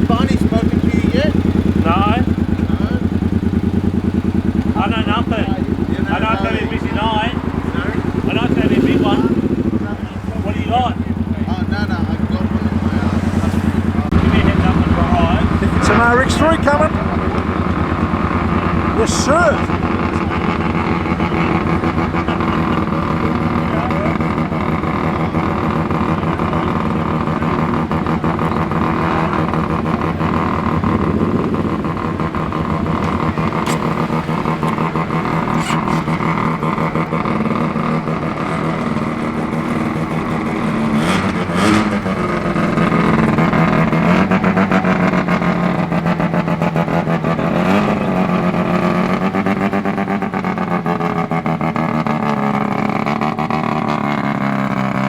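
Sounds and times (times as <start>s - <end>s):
rotary engine running loud: 0.0s - 55.0s.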